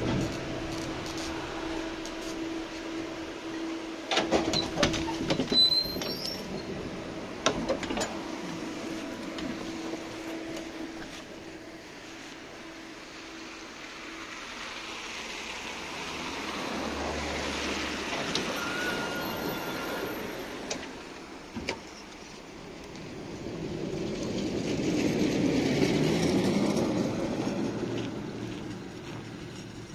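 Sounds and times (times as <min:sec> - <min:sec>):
tram passing: 0:00.0 - 0:29.9.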